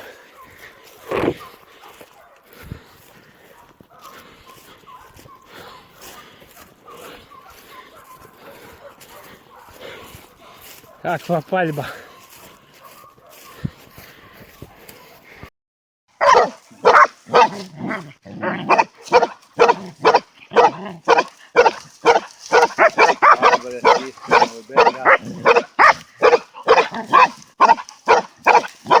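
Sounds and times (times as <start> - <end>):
dogs barking rapidly: 0.0 - 13.8, 16.2 - 29.0.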